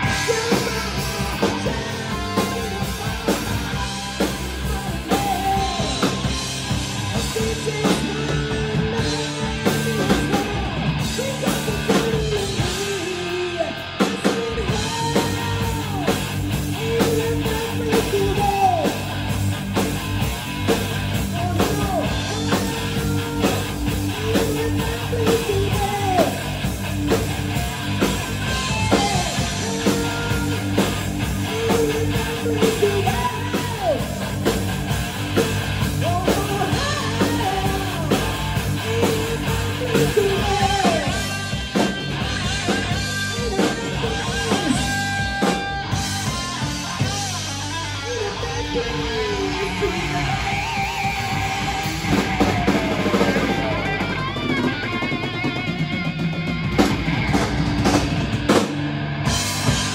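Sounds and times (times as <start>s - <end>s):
person singing: 0.0s - 19.2s, 21.2s - 26.6s, 28.4s - 34.5s, 35.3s - 55.9s
drum kit: 0.0s - 59.9s
electric guitar: 0.0s - 59.9s.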